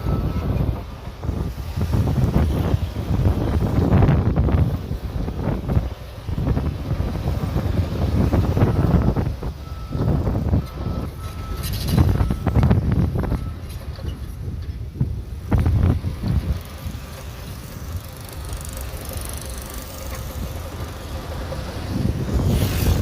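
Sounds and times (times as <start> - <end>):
bulldozer clanking and clatter: 0.0 - 23.0
bulldozer diesel engine running: 0.0 - 23.0.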